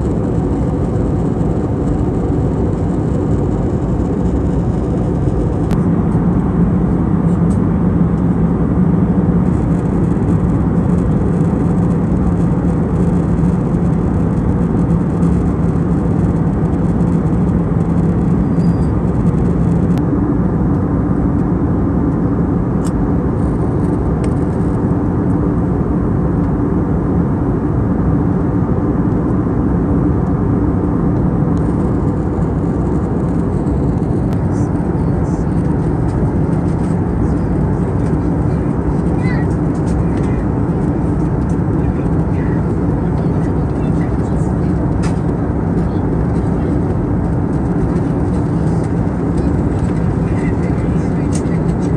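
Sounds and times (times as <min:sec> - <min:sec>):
airliner cabin airflow and engine drone: 0:00.0 - 0:51.9
low hum: 0:00.0 - 0:51.9.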